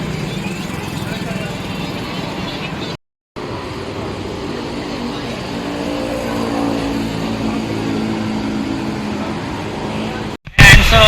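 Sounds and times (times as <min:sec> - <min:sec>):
road noise: 0:00.0 - 0:10.4.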